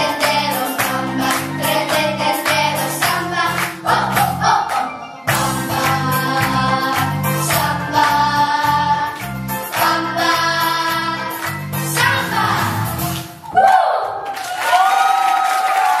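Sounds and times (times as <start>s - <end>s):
girls singing together: 0.0s - 12.9s
musical accompaniment with pulsing bass: 0.0s - 13.4s.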